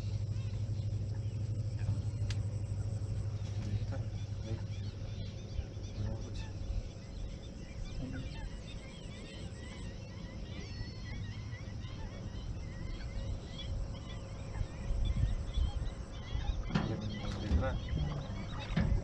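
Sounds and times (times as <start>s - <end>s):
steady low hum: 0.0s - 19.0s
water birds calling: 0.0s - 19.0s.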